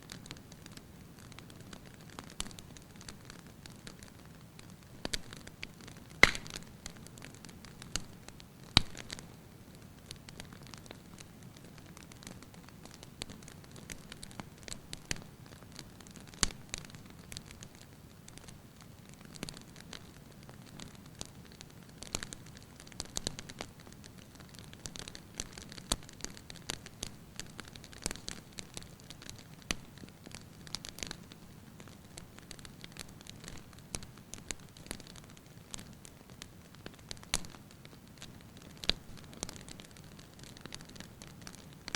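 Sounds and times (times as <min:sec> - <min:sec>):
firewood crackling and popping: 0:00.1 - 0:41.9.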